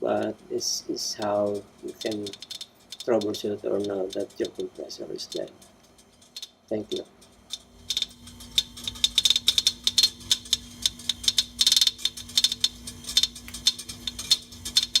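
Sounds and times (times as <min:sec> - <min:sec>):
refrigerator compressor clicking: 0:01.1 - 0:15.0.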